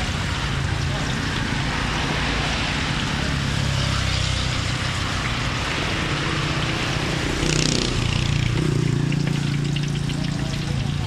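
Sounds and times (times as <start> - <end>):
hot oil sizzling in a wok: 0.0 - 11.0.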